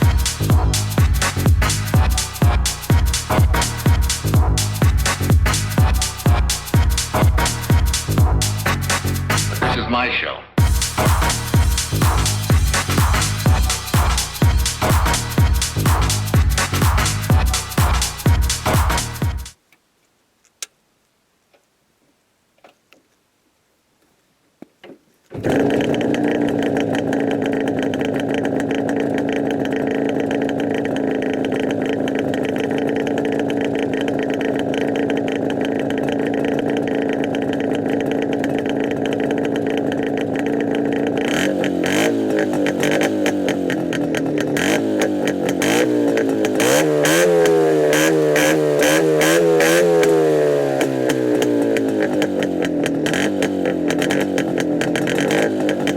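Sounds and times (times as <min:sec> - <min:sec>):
motorcycle engine idling and revving: 0:00.0 - 0:09.7, 0:10.6 - 0:19.6, 0:25.3 - 0:55.9.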